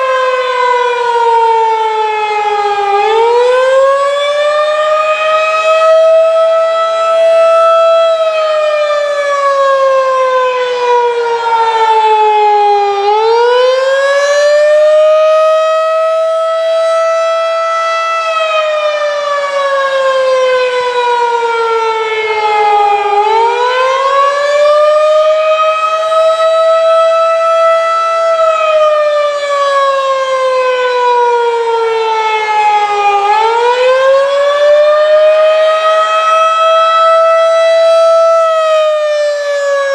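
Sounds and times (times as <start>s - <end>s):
warning siren winding up and down: 0.0s - 39.9s.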